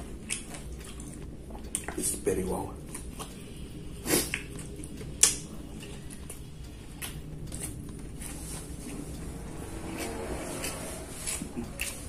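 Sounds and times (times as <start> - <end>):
person chewing: 0.0 - 2.1, 2.8 - 12.0.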